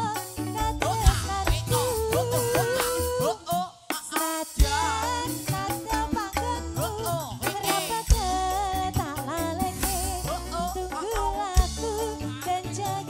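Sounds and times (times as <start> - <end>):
hand drums: 0.0 - 13.0
live pop band playing: 0.0 - 13.0
tambourine: 0.0 - 13.0
woman singing: 0.0 - 13.0.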